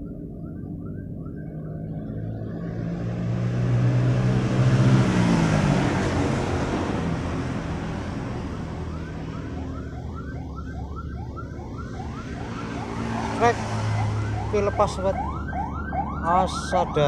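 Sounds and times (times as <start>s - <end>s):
ambulance siren yelping: 0.0s - 17.0s
vehicle passing by: 1.5s - 17.0s.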